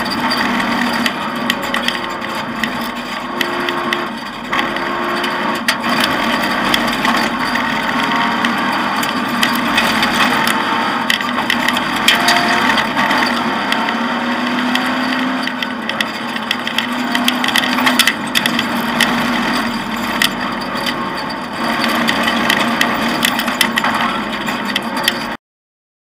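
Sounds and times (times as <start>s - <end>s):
cabin clicks and rattles: 0.0s - 25.4s
rally car engine under load: 0.0s - 25.4s.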